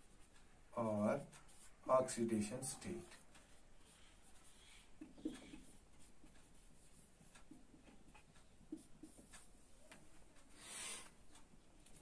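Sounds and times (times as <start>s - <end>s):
marker pen writing on whiteboard: 0.0s - 11.2s.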